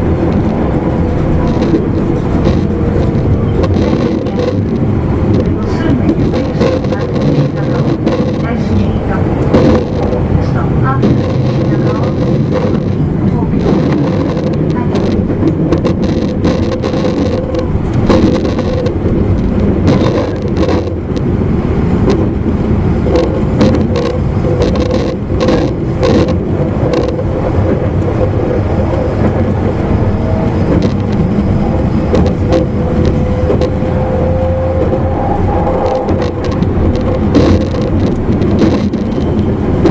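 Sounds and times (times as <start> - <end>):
clicks and knocks from track: 0.0 - 39.9
train motors and wheels rumbling: 0.0 - 39.9.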